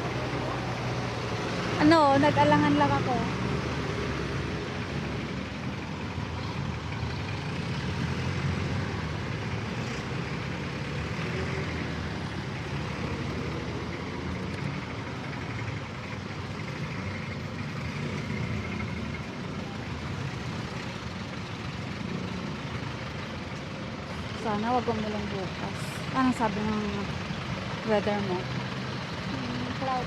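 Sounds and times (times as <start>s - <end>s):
vehicle engines running and idling: 0.0s - 30.0s.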